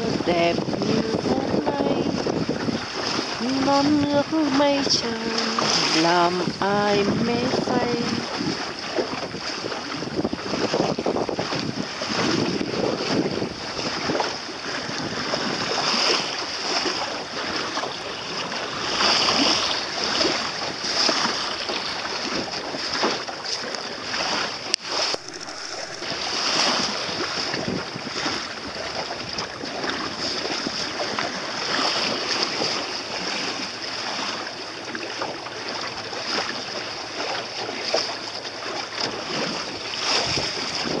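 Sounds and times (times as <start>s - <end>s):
wind buffeting microphone: 0.0s - 36.5s, 38.6s - 41.0s
water splashing along a hull: 0.0s - 41.0s.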